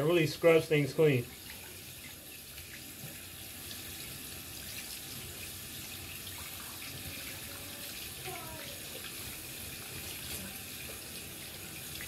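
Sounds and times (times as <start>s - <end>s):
faucet running: 0.0s - 12.0s.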